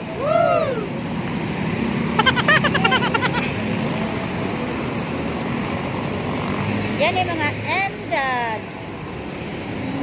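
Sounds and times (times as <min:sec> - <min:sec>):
heavy road traffic hum: 0:00.0 - 0:10.0.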